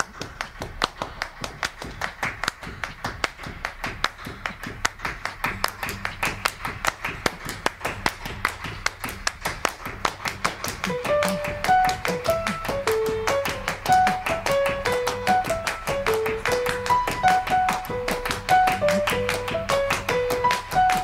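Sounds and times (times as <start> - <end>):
quick evenly spaced claps: 0.0 - 21.0.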